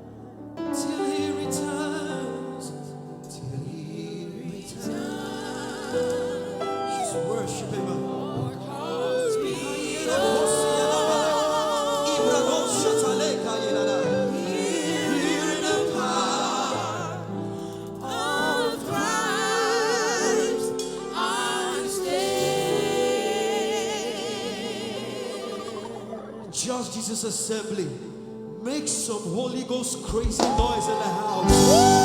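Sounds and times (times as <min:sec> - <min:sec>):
gospel singing with vibrato: 0:00.0 - 0:32.0.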